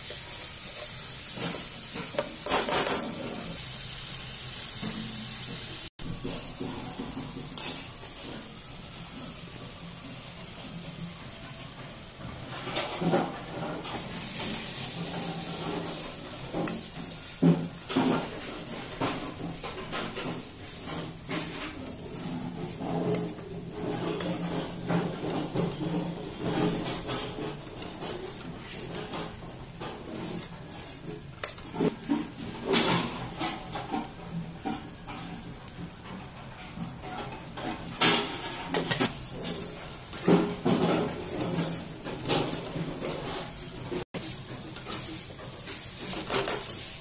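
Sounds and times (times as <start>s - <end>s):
steel spoon scraping a pan: 0.0s - 3.7s, 6.6s - 8.5s, 12.4s - 47.0s.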